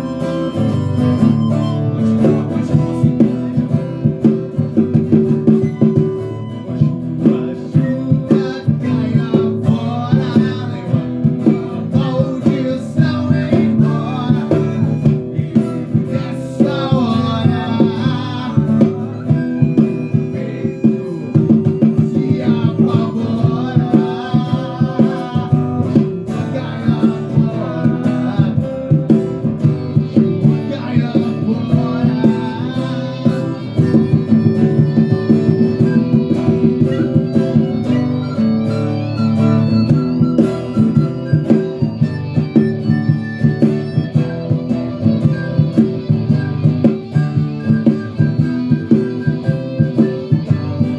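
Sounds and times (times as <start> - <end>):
band music with guitars: 0.0 - 50.9.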